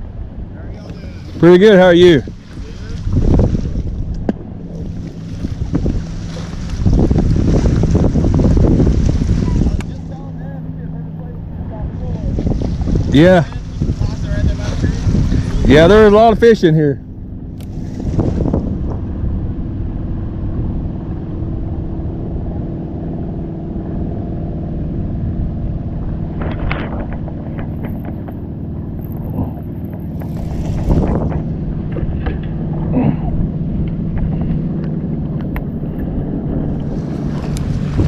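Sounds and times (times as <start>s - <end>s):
boat motor running: 0.0s - 38.0s
water rumbling: 0.0s - 38.0s
wind: 0.0s - 38.0s.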